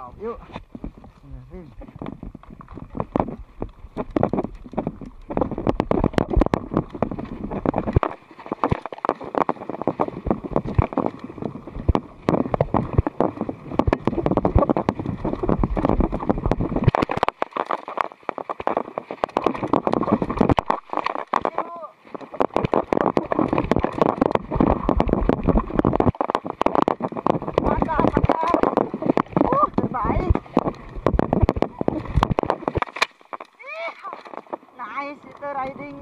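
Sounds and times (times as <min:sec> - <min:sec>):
bike rattling over rough trail: 0:00.0 - 0:36.0
wind buffeting microphone: 0:00.0 - 0:36.0.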